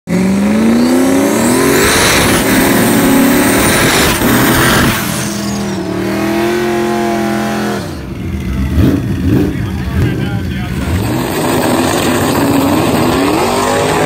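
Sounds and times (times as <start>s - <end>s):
car engine revving: 0.1s - 14.0s.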